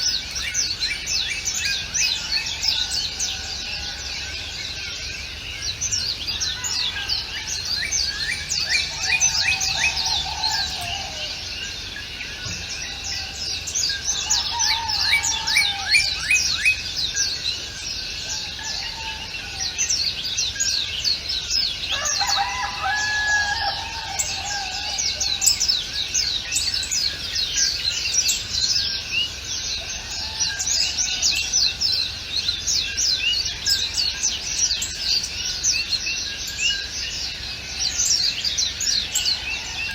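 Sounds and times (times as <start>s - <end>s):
birds chirping and singing: 0.0s - 39.9s
lower longer bird calls: 0.0s - 39.9s.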